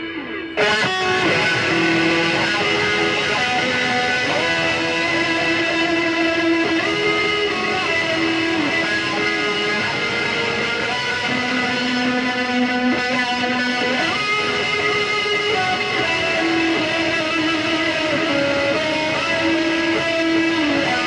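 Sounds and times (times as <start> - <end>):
electric guitar melody: 0.0 - 21.0.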